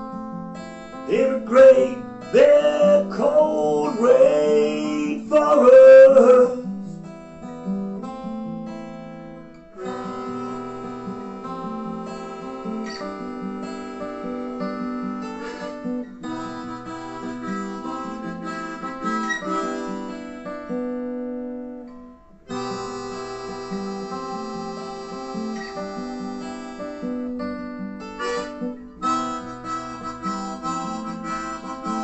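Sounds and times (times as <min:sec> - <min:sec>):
acoustic guitars playing: 0:00.0 - 0:32.0.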